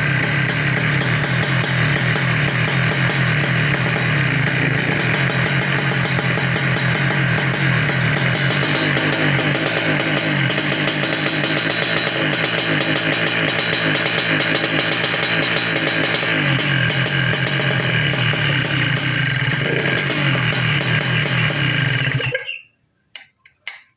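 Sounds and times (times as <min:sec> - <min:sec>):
two-stroke motorcycle engine idling: 0:00.0 - 0:22.6.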